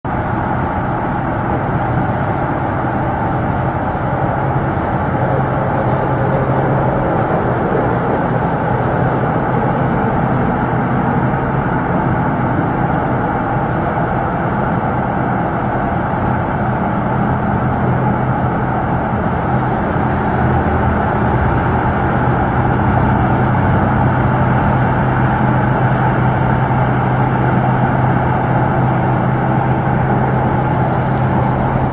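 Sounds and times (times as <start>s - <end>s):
highway traffic: 0.0s - 31.9s
low drone: 0.1s - 31.9s.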